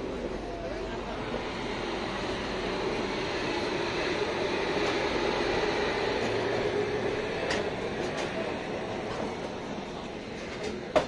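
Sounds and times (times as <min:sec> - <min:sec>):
train running on rails: 0:00.0 - 0:11.0.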